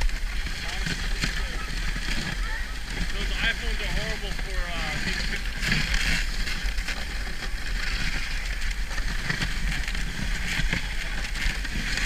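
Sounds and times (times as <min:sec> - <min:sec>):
sled knocking on bumps: 0:00.0 - 0:12.0
sled runners rumbling on snow: 0:00.0 - 0:12.0.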